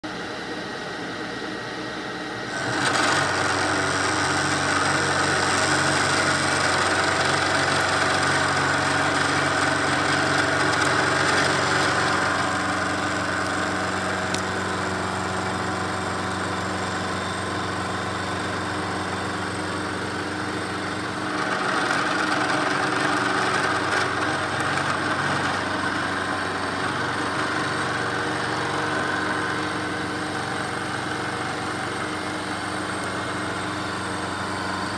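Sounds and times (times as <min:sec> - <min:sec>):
motor hum: 0:00.1 - 0:34.9
milling machine cutting metal: 0:02.4 - 0:34.9.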